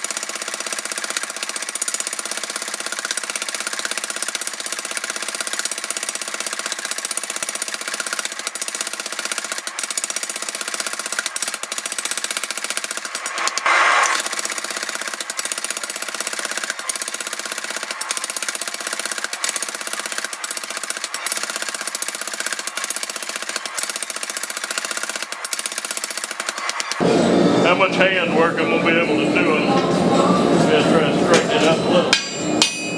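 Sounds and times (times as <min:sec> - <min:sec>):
power hammer pounding steel: 0:00.0 - 0:27.0.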